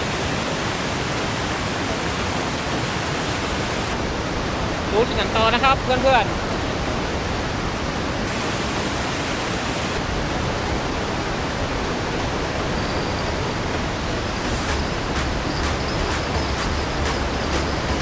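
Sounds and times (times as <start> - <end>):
water rushing over a weir: 0.0 - 18.0.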